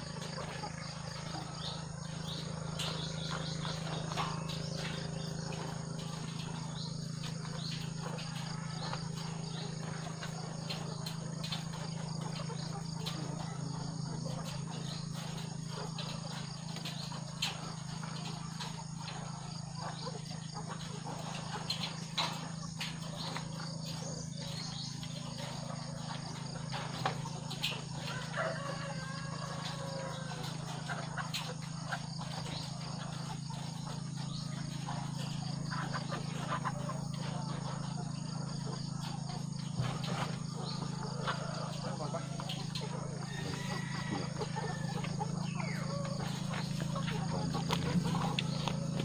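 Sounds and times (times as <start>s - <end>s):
hens clicking and tapping: 0.0s - 49.0s
insects chirring: 0.0s - 49.0s.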